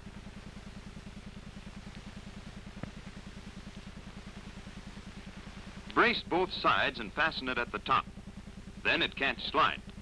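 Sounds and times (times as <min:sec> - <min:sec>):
film soundtrack hum and throb: 0:00.0 - 0:10.0.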